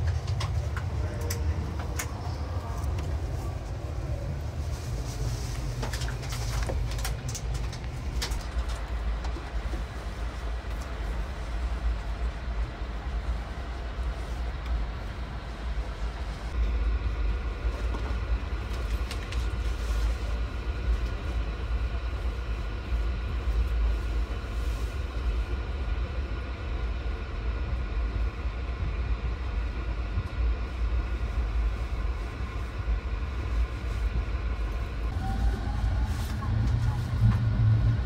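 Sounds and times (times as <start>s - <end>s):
train car hum and rumble: 0.0s - 38.0s.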